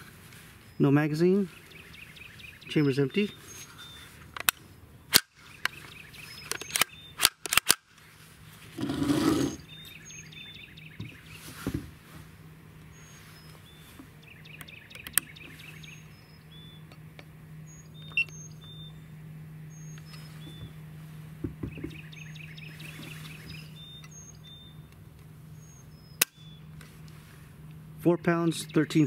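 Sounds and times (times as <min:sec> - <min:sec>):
birds chirping: 0:00.0 - 0:29.0
steady low hum: 0:00.0 - 0:29.0.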